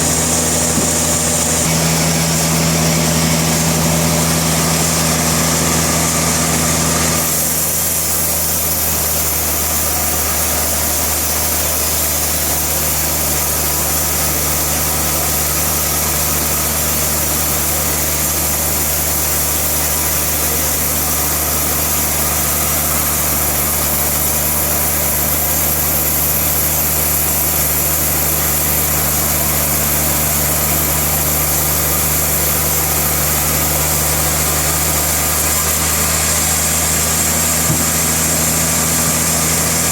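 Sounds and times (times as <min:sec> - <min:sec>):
sawmill motor hum: 0:00.0 - 0:39.9.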